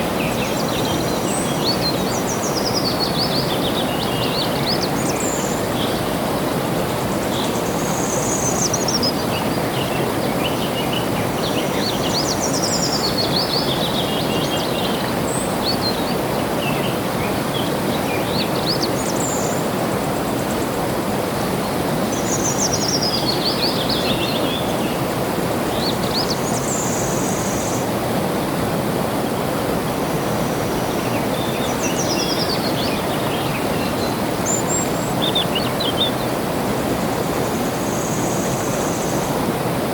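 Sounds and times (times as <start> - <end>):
songbirds singing: 0.0 - 28.6, 30.3 - 39.4.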